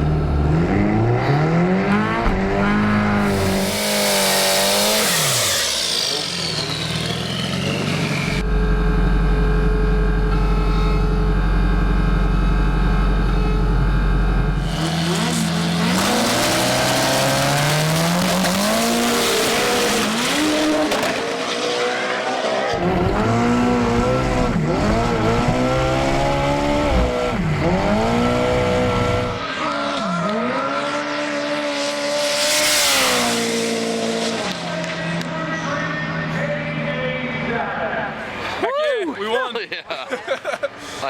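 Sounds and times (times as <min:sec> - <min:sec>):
drag race engines revving: 0:00.0 - 0:38.6.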